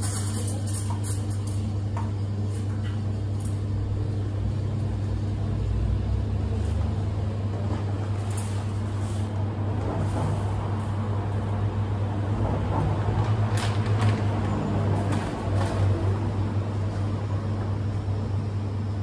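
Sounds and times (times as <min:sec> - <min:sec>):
cafe machinery hum: 0:00.0 - 0:19.0.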